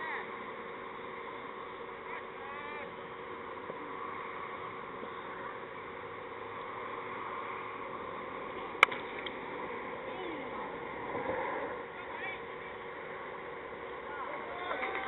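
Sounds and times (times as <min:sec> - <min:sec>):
open-air background noise: 0:00.0 - 0:15.0.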